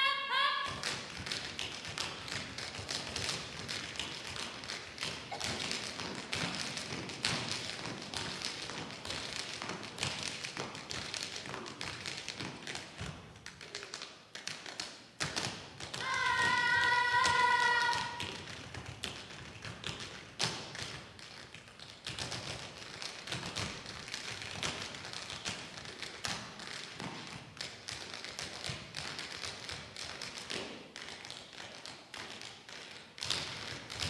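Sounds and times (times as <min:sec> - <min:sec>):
tap shoes tapping: 0:00.7 - 0:34.0.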